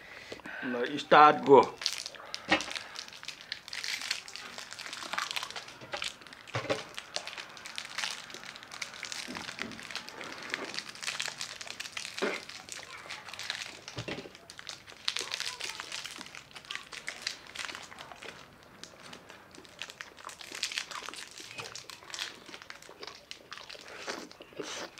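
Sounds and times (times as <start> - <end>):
wrappers crinkling: 1.5 - 24.9.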